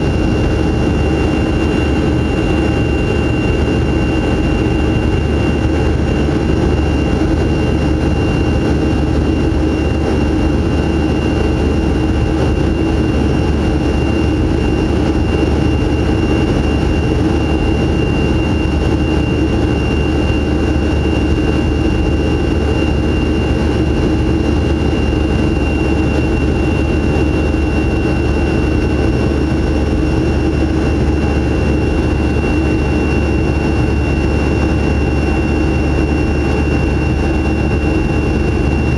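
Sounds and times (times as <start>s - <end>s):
jet engines in cabin: 0.0s - 38.9s.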